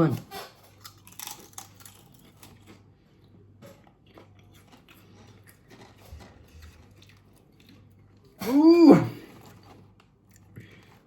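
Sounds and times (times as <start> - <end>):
chewing crisps crunching: 0.0 - 11.0.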